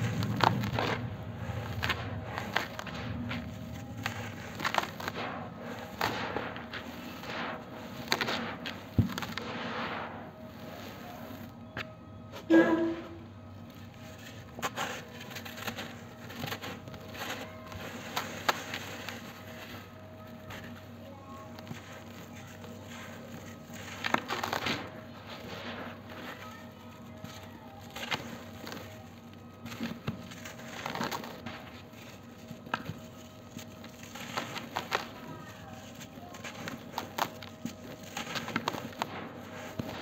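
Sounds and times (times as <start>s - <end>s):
hands crumbling dry clay: 0.0s - 12.2s, 13.6s - 40.0s
sharp crackles: 0.0s - 40.0s.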